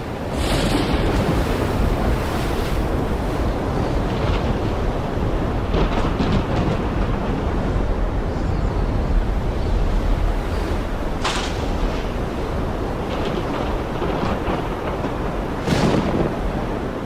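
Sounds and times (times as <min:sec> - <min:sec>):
heavy rain pouring: 0:00.0 - 0:17.0
thunder rumbling: 0:00.0 - 0:17.0.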